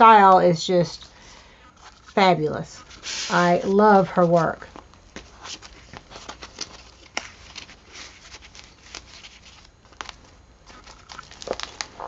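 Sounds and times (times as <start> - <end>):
paper pages rustling: 1.8 - 12.0.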